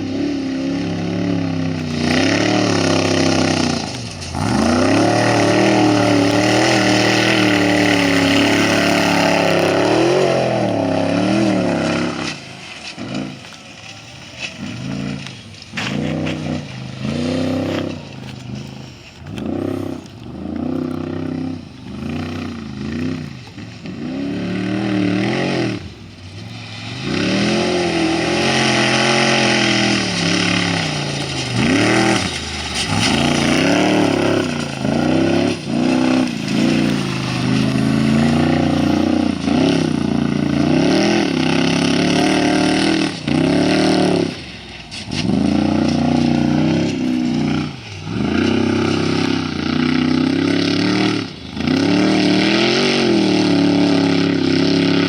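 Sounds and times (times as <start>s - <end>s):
race vehicle engine revving: 0.0s - 55.0s.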